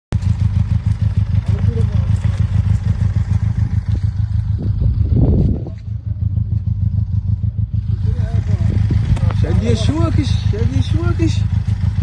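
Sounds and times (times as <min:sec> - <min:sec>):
motorcycle engine idling: 0:00.1 - 0:12.0.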